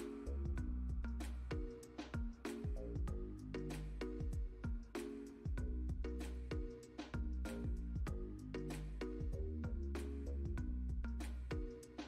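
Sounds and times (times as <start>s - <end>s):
music with deep beat and chords: 0.0s - 12.0s.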